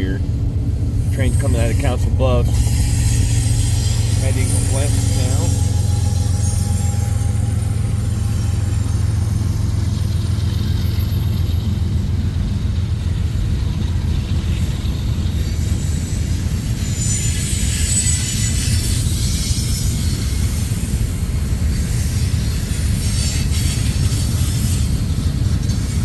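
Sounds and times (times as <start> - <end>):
diesel locomotive rumble: 0.0 - 26.0
train wheel and rail hiss: 0.0 - 26.0.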